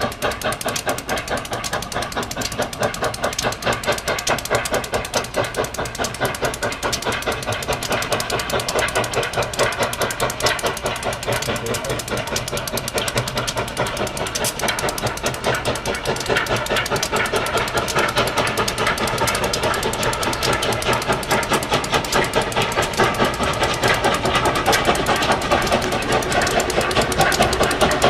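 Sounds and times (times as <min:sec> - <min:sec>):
locomotive engine pulsing: 0:00.0 - 0:28.0.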